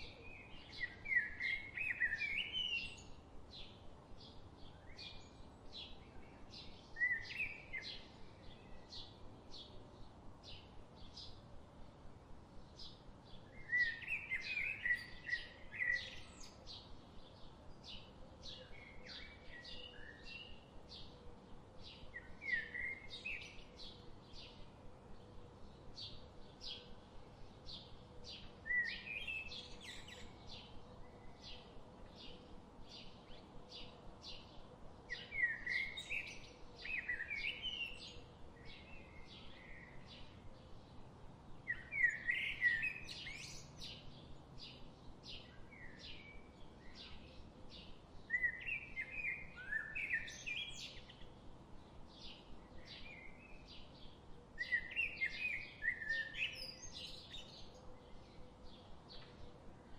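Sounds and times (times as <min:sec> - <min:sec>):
bird warbling song: 0:00.0 - 0:09.8, 0:12.6 - 0:21.2, 0:27.6 - 0:41.0, 0:41.6 - 0:59.9.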